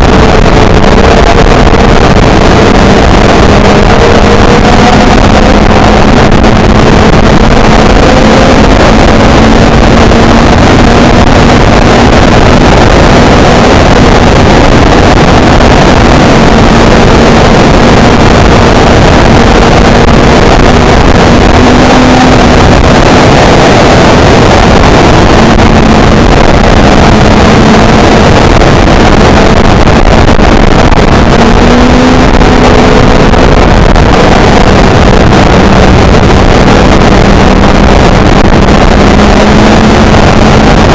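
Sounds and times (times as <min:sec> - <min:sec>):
wind noise on microphone: 0:00.0 - 0:40.9.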